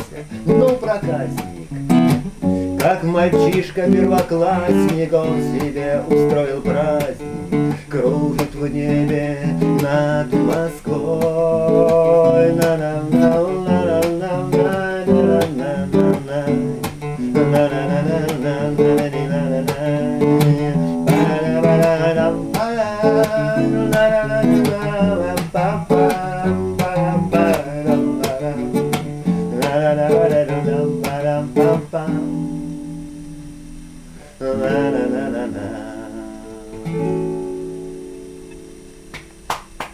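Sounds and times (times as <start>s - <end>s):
acoustic guitar strummed chords: 0.0s - 39.9s.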